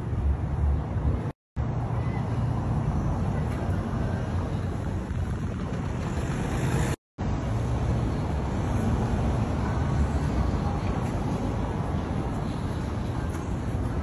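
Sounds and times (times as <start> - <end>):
low rumble of city traffic: 0.0 - 14.0.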